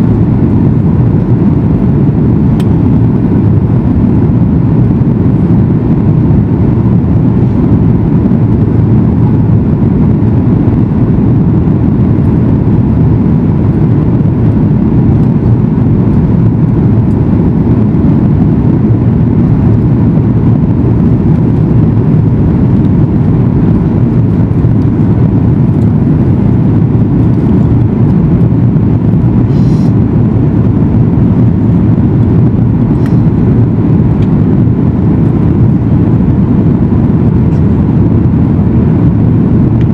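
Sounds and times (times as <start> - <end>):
air rushing over fuselage: 0.0 - 39.9
faint steady hum: 0.0 - 39.9
jet engines in cabin: 0.0 - 39.9.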